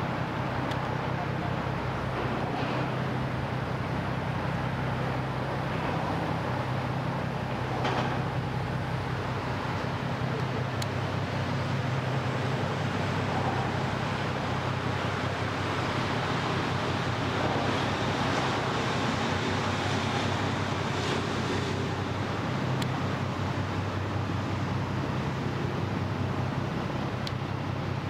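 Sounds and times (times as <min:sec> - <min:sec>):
tugboat diesel engine drone: 0:00.0 - 0:28.0
water wash: 0:00.0 - 0:28.0.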